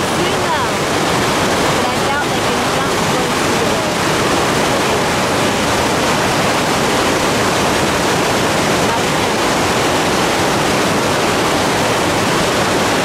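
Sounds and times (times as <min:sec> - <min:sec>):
rapids rushing over boulders: 0:00.0 - 0:13.0.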